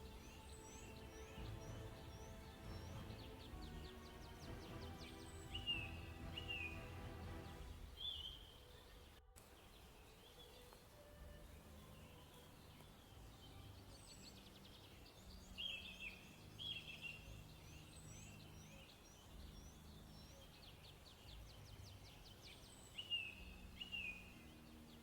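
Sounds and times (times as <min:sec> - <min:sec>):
faint low steady drone: 0:00.0 - 0:25.0
songbird chirping and whistling: 0:00.0 - 0:25.0.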